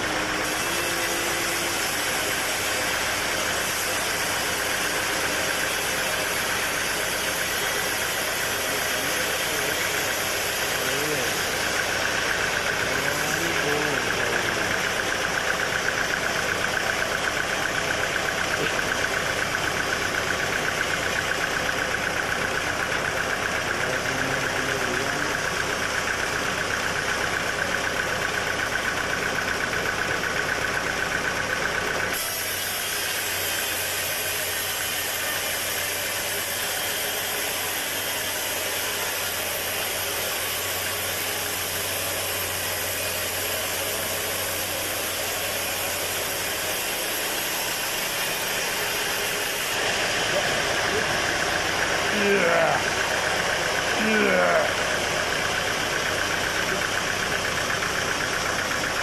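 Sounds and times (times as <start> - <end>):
saw whining: 0.0 - 29.0, 31.8 - 59.0
sawmill engine running: 0.0 - 59.0.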